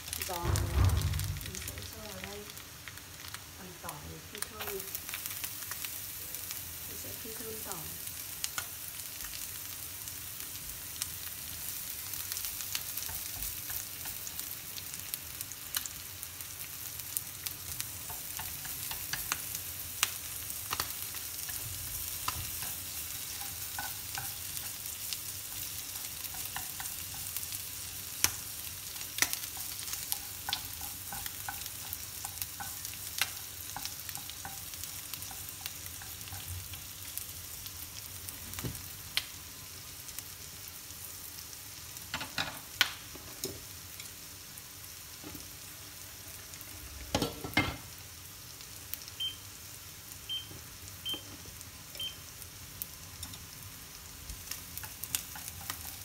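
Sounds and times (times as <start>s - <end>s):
fish and garlic sizzling in oil: 0.0s - 56.0s.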